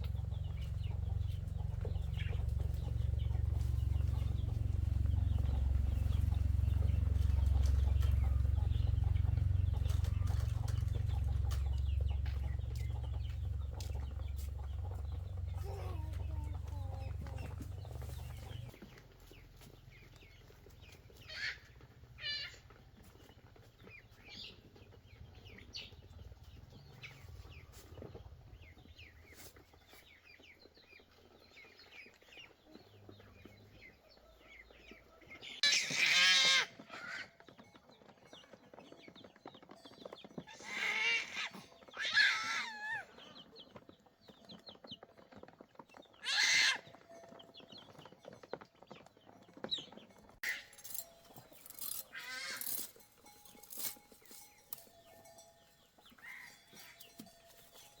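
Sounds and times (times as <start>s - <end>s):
chickens clucking: 0.0s - 38.1s, 49.3s - 58.0s.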